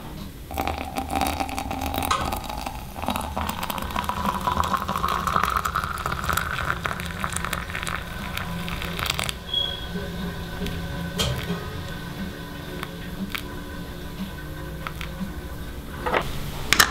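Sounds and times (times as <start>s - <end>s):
water pouring into chamber: 0.5s - 15.9s.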